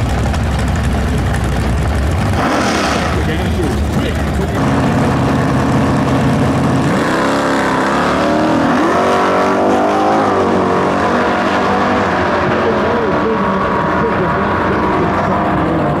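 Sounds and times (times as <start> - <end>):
engines accelerating at full throttle: 0.0 - 16.0.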